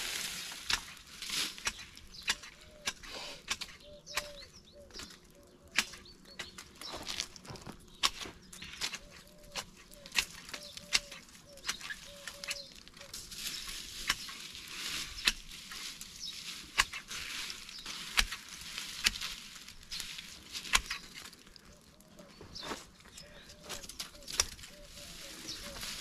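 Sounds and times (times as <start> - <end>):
leaves and brush burning: 0.0 - 26.0.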